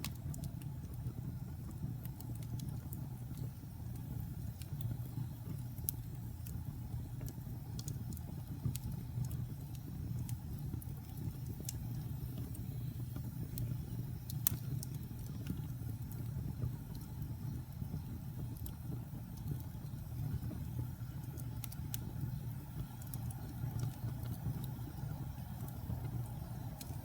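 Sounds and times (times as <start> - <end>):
fire rumbling: 0.0 - 27.0
wood crackling and popping: 0.0 - 27.0.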